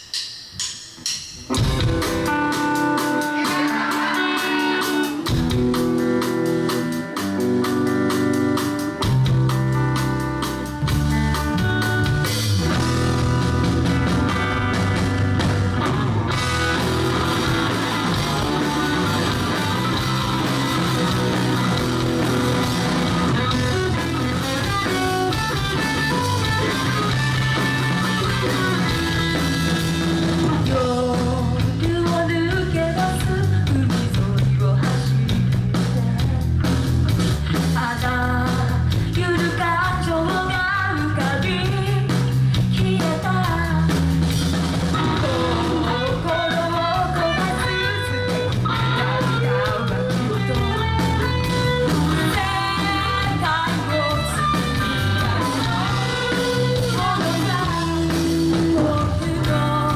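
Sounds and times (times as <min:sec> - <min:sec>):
drum kit: 0:00.0 - 0:59.9
bass guitar: 0:01.4 - 0:59.9
electric guitar: 0:01.5 - 0:59.9.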